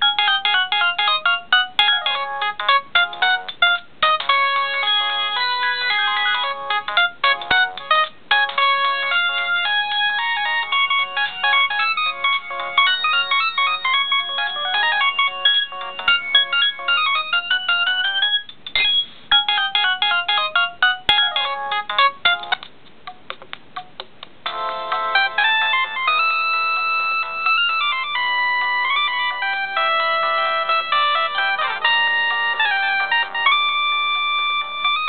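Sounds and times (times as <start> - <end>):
mobile phone ringtone melodies: 0.0 - 22.6, 24.5 - 35.0.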